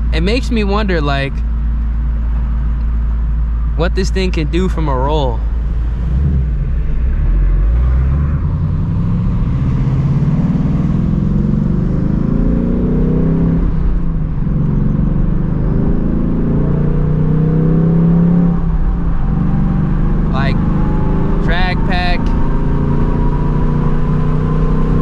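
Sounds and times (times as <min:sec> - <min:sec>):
car engine accelerating hard: 0:02.3 - 0:25.0.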